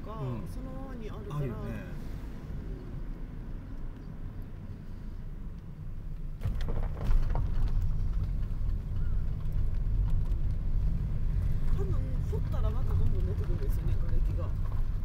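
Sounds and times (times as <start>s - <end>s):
car rumbling from inside cabin: 0.0s - 15.0s.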